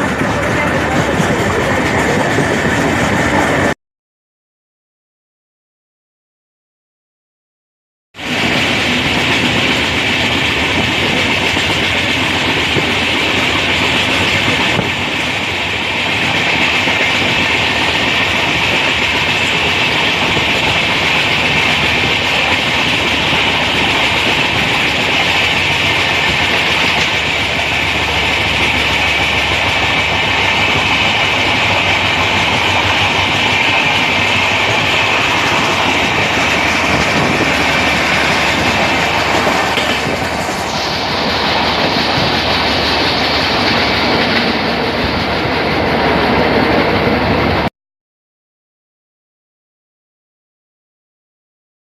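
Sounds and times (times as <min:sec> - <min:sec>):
train rolling along track: 0:00.0 - 0:03.8, 0:08.2 - 0:47.7.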